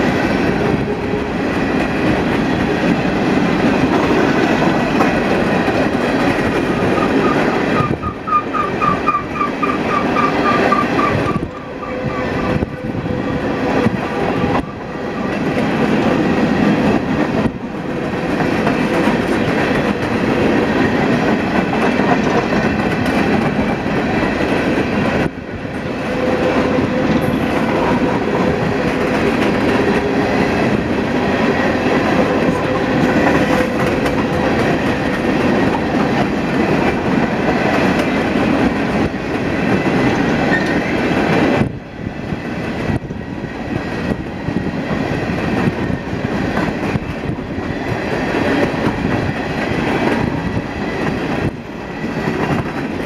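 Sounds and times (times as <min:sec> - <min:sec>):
train cars rolling on rails: 0:00.0 - 0:53.0.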